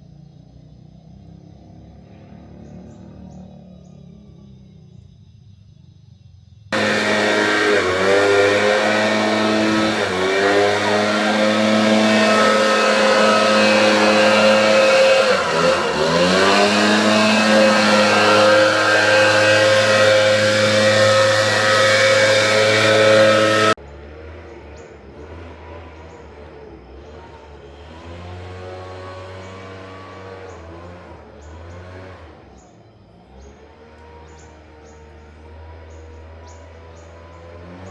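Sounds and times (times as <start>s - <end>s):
car engine revving: 6.7s - 37.9s.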